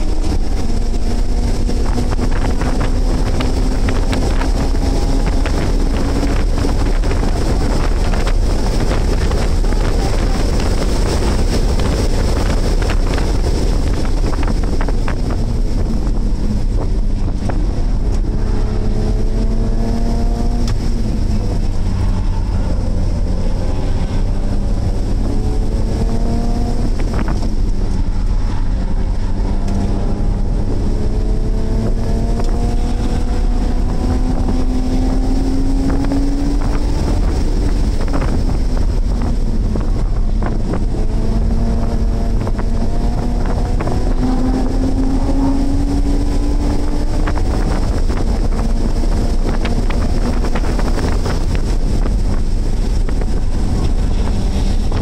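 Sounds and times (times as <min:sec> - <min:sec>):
race car engine revving: 0:00.0 - 0:55.0
wind and road noise: 0:00.0 - 0:55.0.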